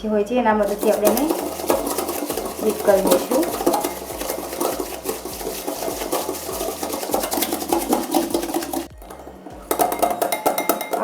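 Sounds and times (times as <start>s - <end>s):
hand beater clicking against container: 0.6s - 11.0s.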